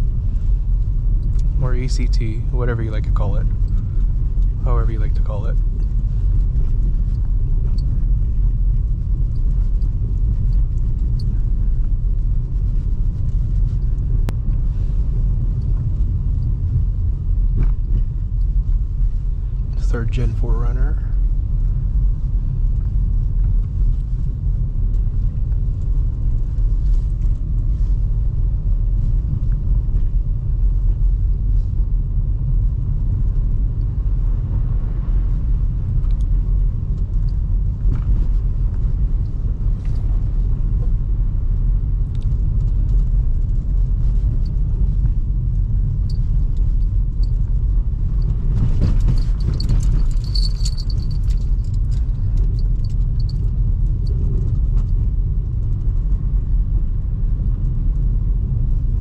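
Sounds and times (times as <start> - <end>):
car cabin engine and tyre rumble: 0.0 - 59.0.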